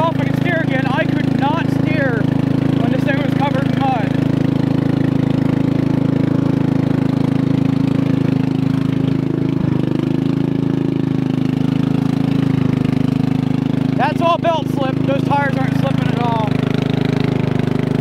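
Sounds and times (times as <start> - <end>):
tractor engine running without muffler: 0.0 - 18.0.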